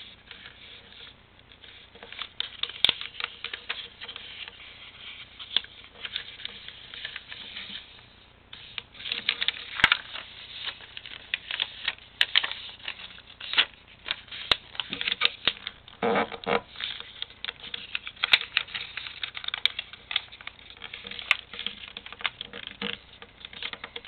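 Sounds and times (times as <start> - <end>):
paper rustling and crinkling: 0.0 - 8.0, 8.6 - 24.0.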